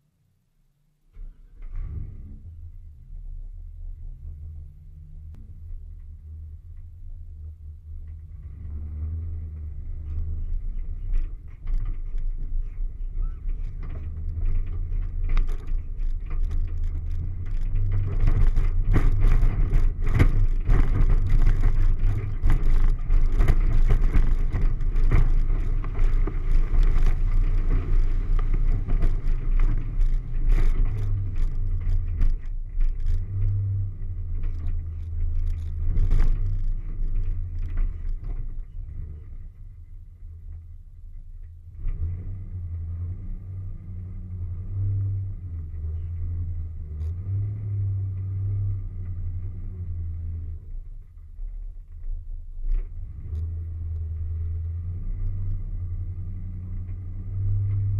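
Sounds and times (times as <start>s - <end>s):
low engine rumble: 0.0s - 57.9s
vehicle knocks and rattles: 5.3s - 57.9s.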